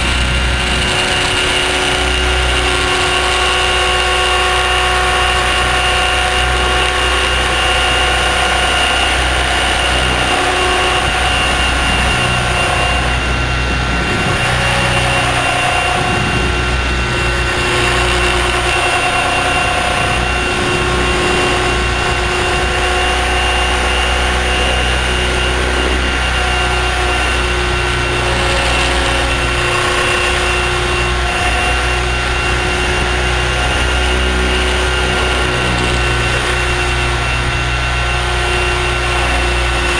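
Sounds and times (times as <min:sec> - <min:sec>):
motor and gear whine: 0:00.0 - 0:39.9
rotor drone: 0:00.0 - 0:39.9.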